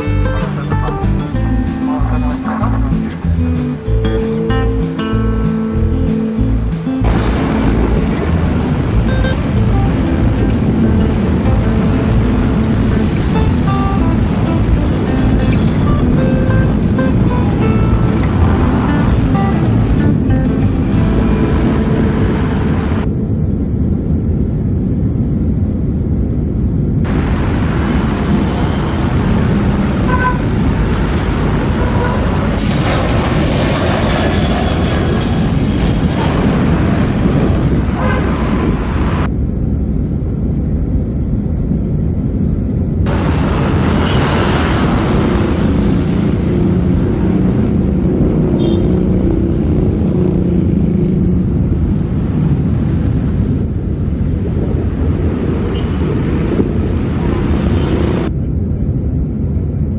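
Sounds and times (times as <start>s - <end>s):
jet engines low rumble: 0.0s - 59.9s.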